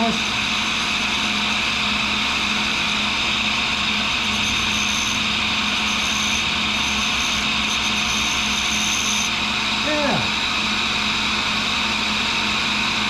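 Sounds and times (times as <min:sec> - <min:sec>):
high whine: 0:00.0 - 0:10.8
grinding wheel spinning: 0:00.0 - 0:13.0.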